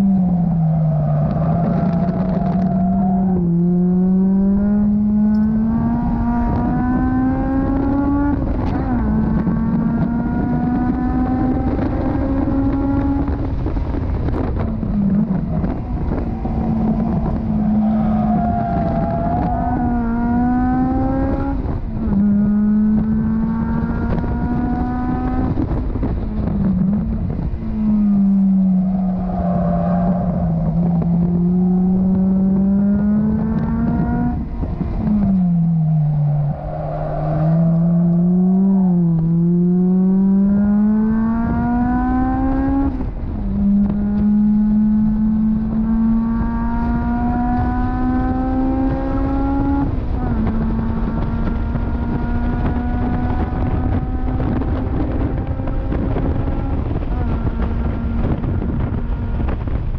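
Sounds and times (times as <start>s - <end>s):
car engine revving: 0.0s - 59.9s
wind buffeting: 0.0s - 59.9s.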